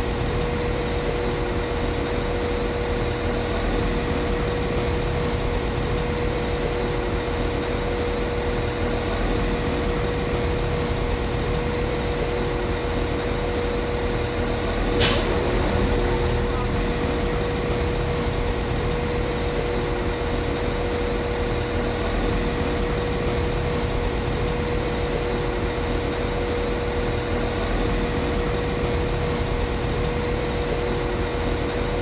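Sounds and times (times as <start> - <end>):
constant hum: 0.0 - 32.0
train diesel engine idling: 3.2 - 30.6.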